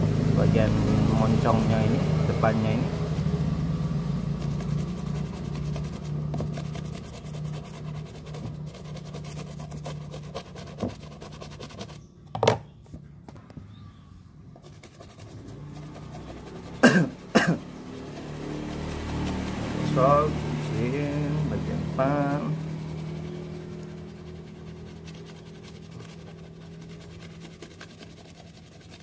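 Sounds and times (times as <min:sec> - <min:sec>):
brush scrubbing a boot: 0:00.3 - 0:12.0, 0:14.6 - 0:29.0.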